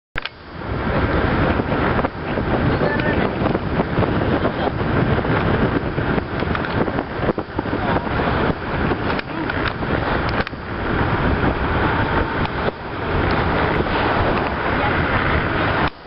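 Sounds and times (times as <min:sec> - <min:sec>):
boat engine rushing: 0:00.2 - 0:16.0
wind buffeting microphone: 0:00.2 - 0:16.0.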